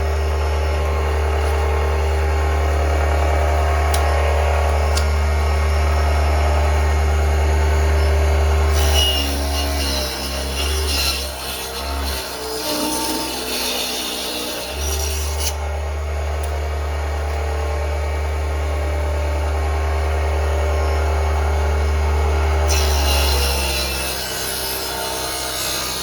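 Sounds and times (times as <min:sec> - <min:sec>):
table saw cutting wood: 0:00.0 - 0:16.0, 0:18.4 - 0:26.0.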